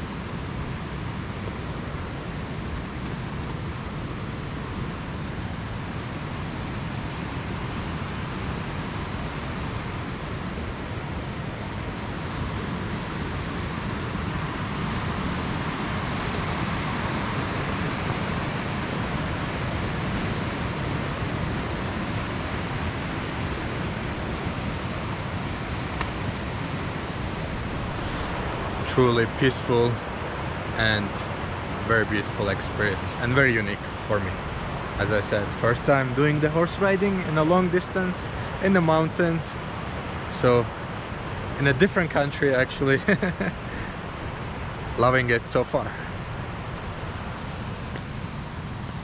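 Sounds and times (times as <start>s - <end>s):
steady rushing noise: 0.0s - 49.0s.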